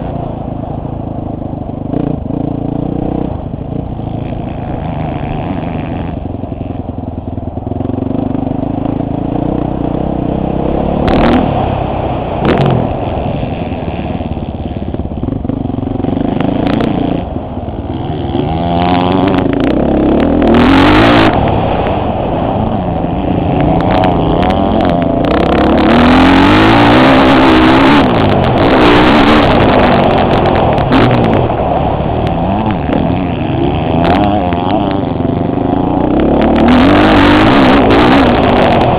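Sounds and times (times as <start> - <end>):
motocross bike engine revving: 0.0 - 38.9
rushing air noise: 2.1 - 38.9.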